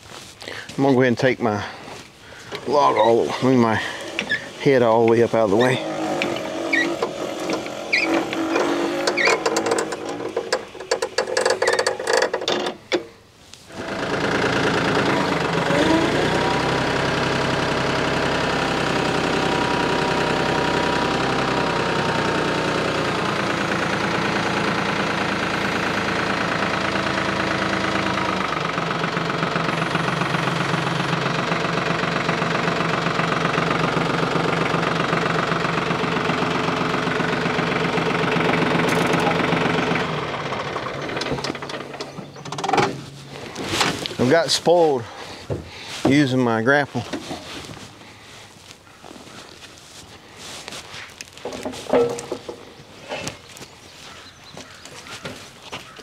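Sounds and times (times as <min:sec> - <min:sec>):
tractor diesel engine running: 0:00.0 - 0:56.0
small gasoline engine clattering: 0:02.4 - 0:56.0.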